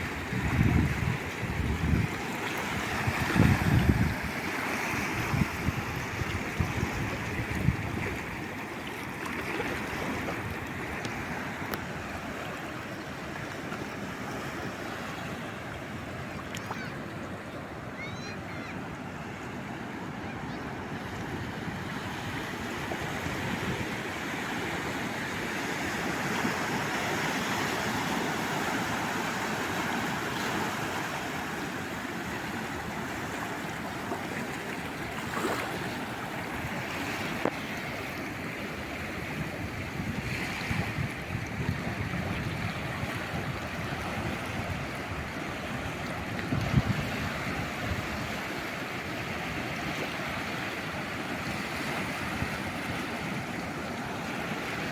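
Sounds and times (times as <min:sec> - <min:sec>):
sea waves washing onto shore: 0:00.0 - 0:54.9.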